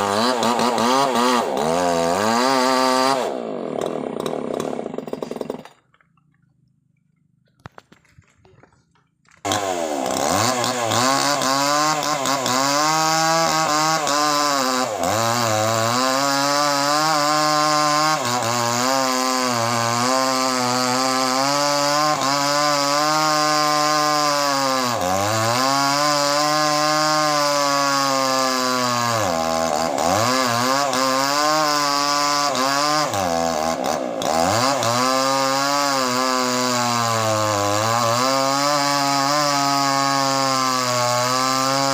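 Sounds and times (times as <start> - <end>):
chainsaw cutting through log: 0.0 - 41.9.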